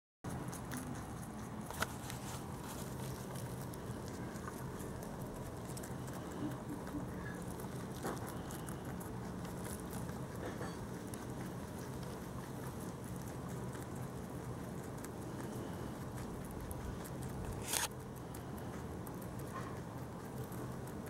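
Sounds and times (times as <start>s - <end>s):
rabbit chewing leaf: 0.2s - 21.0s.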